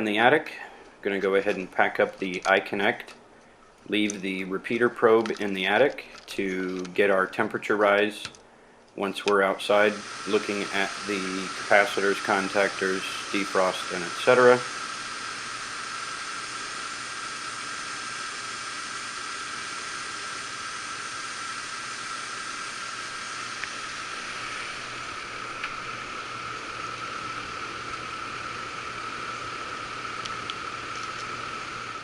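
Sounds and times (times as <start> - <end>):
air handler blower hiss: 0.0 - 32.0
constant high whine: 0.0 - 32.0.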